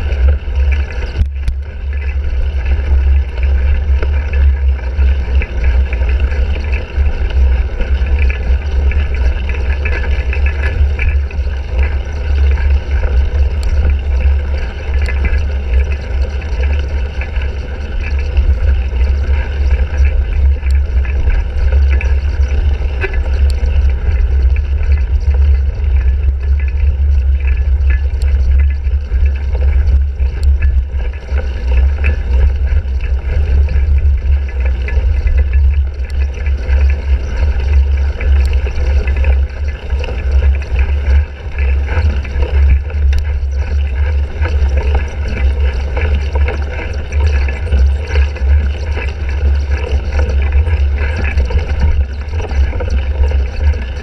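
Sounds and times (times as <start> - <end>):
wind rumbling over microphone: 0.0 - 54.0.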